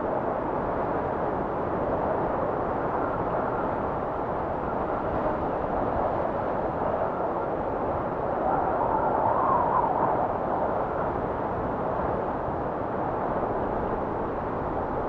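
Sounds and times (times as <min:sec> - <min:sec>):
strong blizzard wind: 0:00.0 - 0:15.0.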